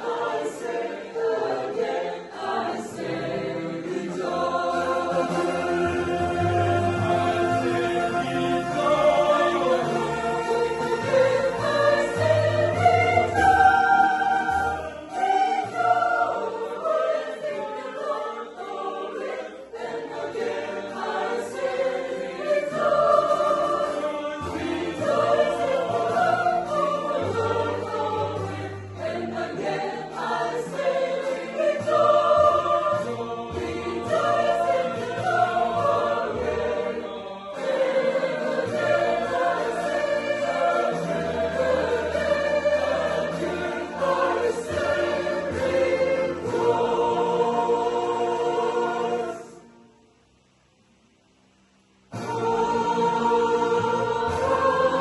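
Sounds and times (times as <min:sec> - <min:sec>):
choir singing in harmony: 0:00.0 - 0:50.2, 0:52.1 - 0:55.0.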